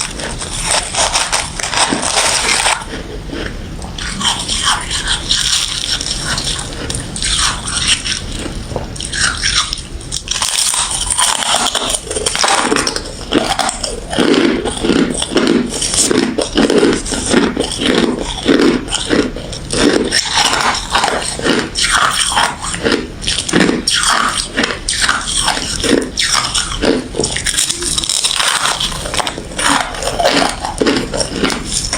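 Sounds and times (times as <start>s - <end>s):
ice being chewed: 0.0s - 31.9s.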